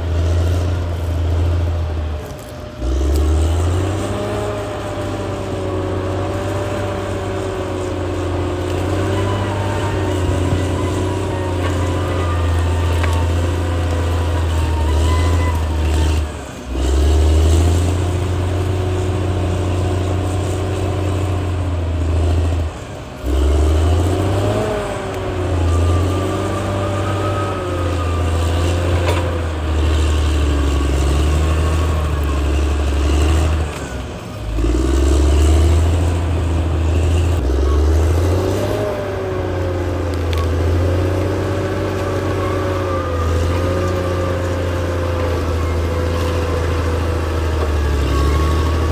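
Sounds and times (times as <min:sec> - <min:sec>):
bulldozer diesel engine working: 0:00.0 - 0:48.9.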